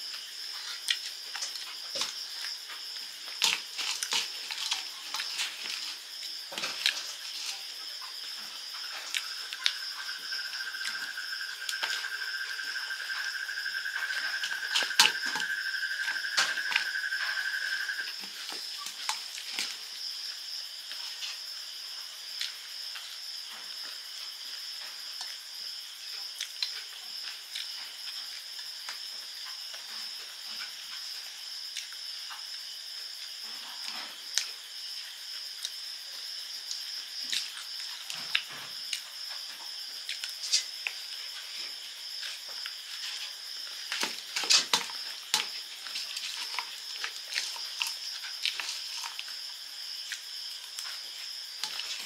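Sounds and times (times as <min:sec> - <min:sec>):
crunchy chewing: 0:00.0 - 0:52.0
insect chirring: 0:00.0 - 0:52.0.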